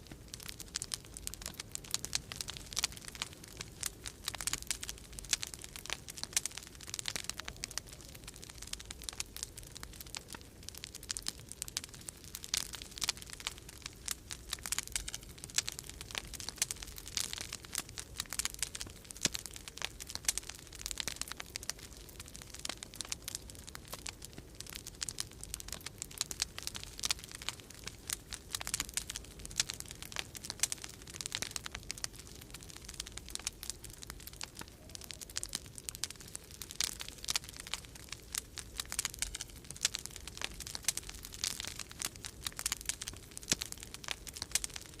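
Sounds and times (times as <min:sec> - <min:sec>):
wood fire crackling and popping: 0:00.0 - 0:45.0.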